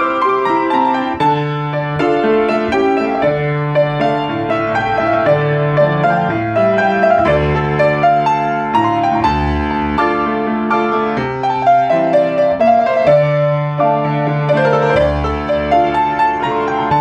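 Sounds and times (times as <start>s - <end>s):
grand piano solo: 0.0s - 17.0s.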